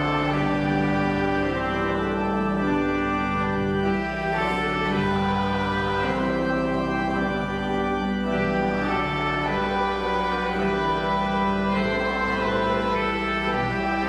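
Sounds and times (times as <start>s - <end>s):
church organ playing chords: 0.0s - 14.0s.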